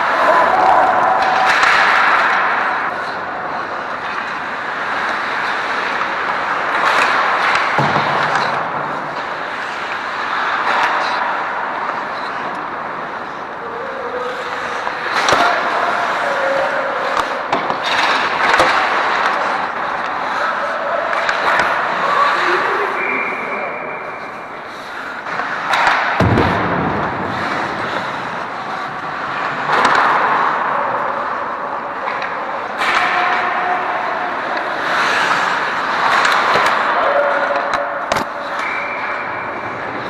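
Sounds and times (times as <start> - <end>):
skates scraping ice: 0.0 - 40.0.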